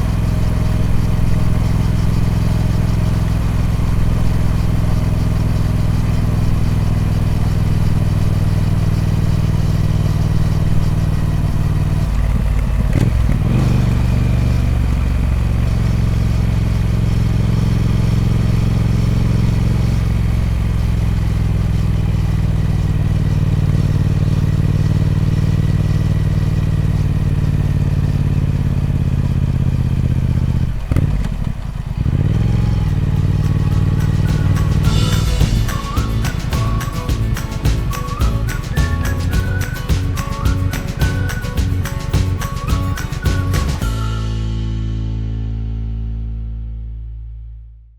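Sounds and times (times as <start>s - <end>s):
motorcycle engine running: 0.0s - 46.4s.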